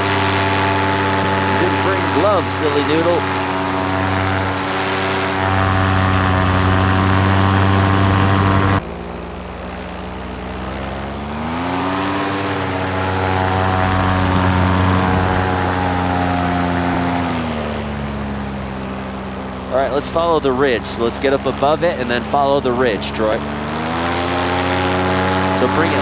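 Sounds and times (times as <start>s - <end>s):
paramotor engine and propeller: 0.0s - 26.0s.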